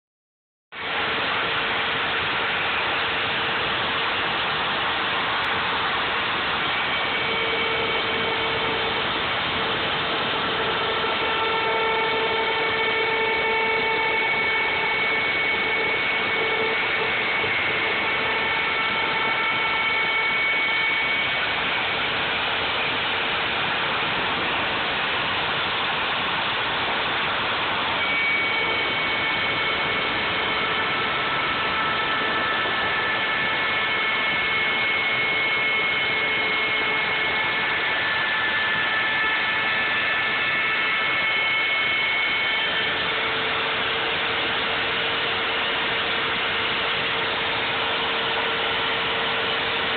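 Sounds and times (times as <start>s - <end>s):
router motor whining: 0.8s - 49.9s
higher cutting tones: 5.0s - 49.9s.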